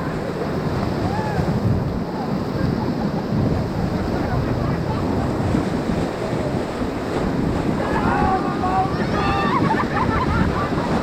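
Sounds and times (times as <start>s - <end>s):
whitewater rapids rushing: 0.0s - 11.0s
wind buffeting microphone: 0.0s - 11.0s.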